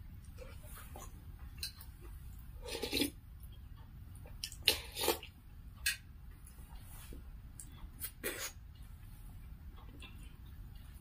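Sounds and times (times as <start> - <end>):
wet chewing and mouth noises: 0.1 - 11.0.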